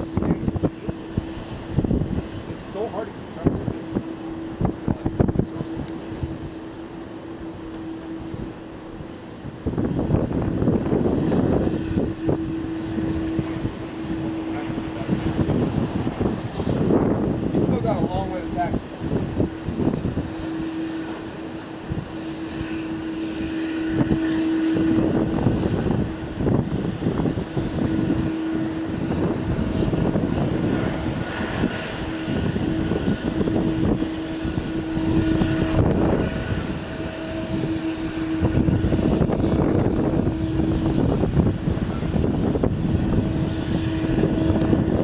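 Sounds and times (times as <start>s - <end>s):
jet engines idling with whine: 0.0s - 45.0s
wind buffeting microphone: 0.0s - 45.0s.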